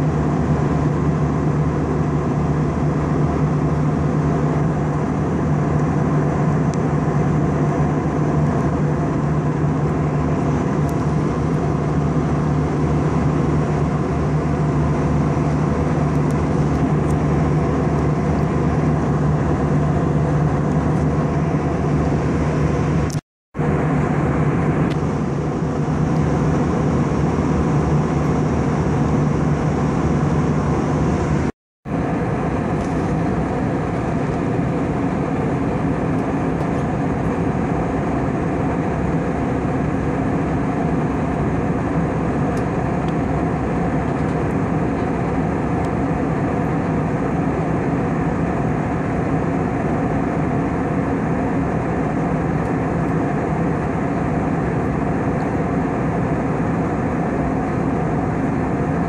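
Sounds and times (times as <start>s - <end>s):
jet engines droning: 0.0s - 59.0s
low steady hum: 0.0s - 59.0s.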